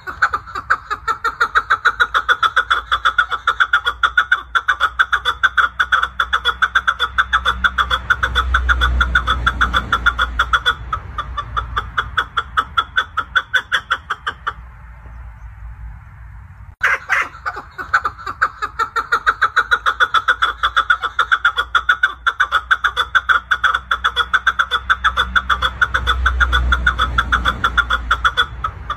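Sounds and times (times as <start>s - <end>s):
partridge calling chuck notes: 0.0s - 15.5s, 16.8s - 28.9s.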